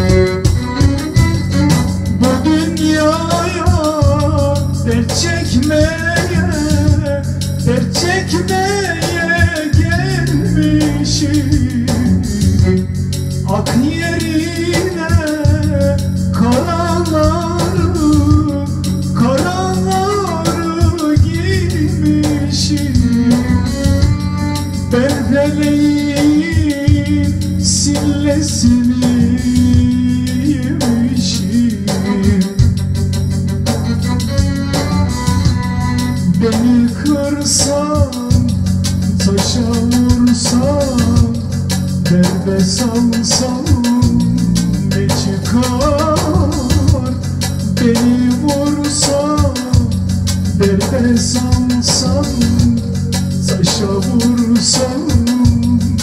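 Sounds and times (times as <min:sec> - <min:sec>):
man singing into a microphone: 0:00.0 - 0:33.2, 0:33.8 - 0:56.0
keyboard accompaniment: 0:00.0 - 0:56.0
organ-like chords and bass: 0:00.0 - 0:56.0.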